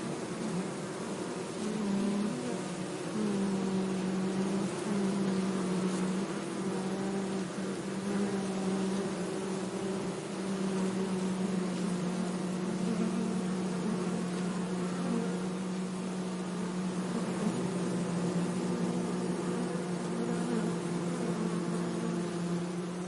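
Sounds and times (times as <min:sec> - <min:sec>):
bee buzzing: 0:00.0 - 0:23.0.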